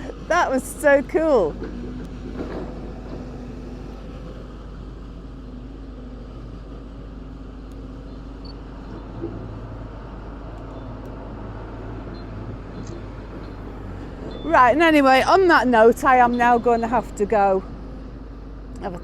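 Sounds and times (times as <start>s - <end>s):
engine running: 0.0s - 19.0s
low outdoor rumble: 0.0s - 19.0s.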